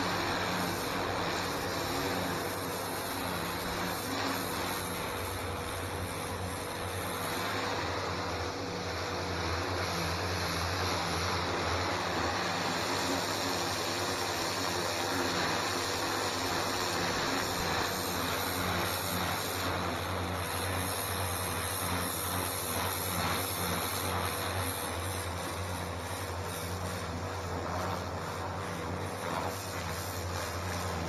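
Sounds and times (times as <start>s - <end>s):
pressure washer pump humming: 0.0s - 31.0s
water jet hissing on stone: 0.0s - 31.0s.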